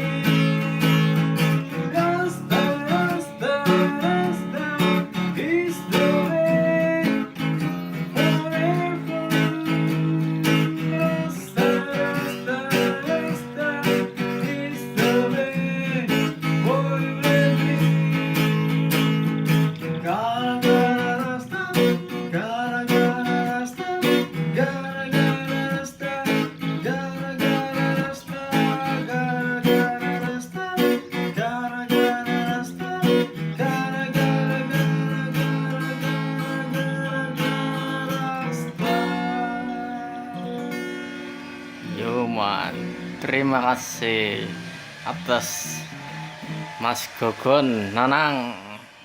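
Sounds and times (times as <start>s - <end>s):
acoustic guitar strumming and picking: 0.0s - 49.0s.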